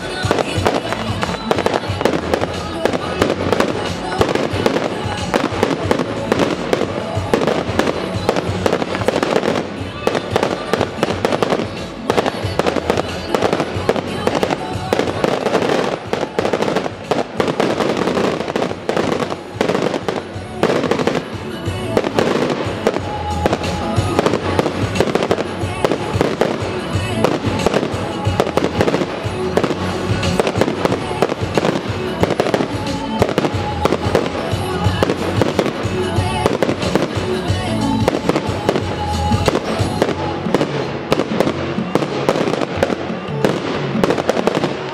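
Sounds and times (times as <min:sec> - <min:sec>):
fireworks bursting: 0:00.0 - 0:44.9
music playing: 0:00.0 - 0:44.9.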